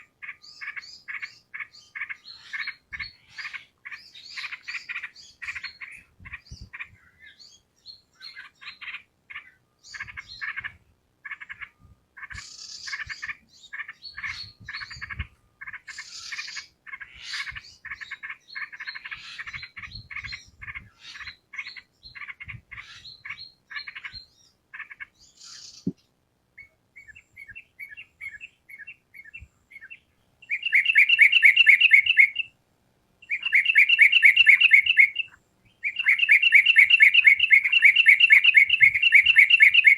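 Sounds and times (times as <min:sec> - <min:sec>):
loud rapid bird trills: 0:00.0 - 0:26.0, 0:26.6 - 0:32.5, 0:33.2 - 0:39.9
bird chattering song: 0:00.0 - 0:32.6, 0:33.2 - 0:39.9.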